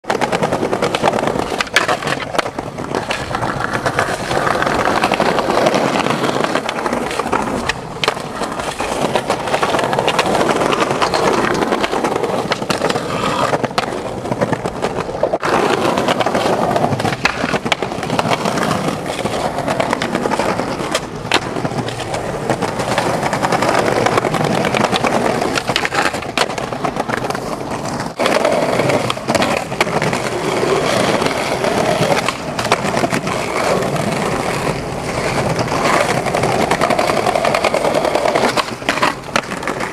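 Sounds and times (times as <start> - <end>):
skateboard clacks: 0.0 - 39.9
skateboard wheels rolling on stone: 0.0 - 39.9.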